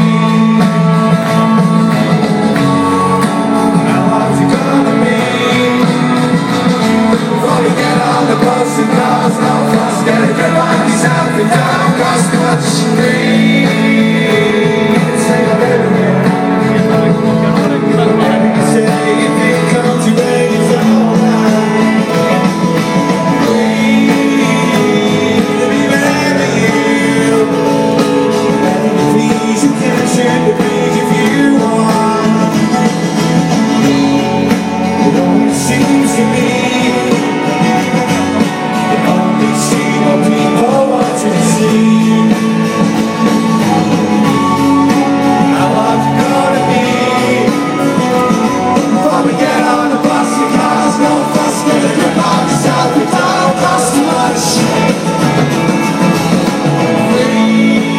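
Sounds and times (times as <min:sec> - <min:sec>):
live rock band with singer: 0:00.0 - 0:57.9.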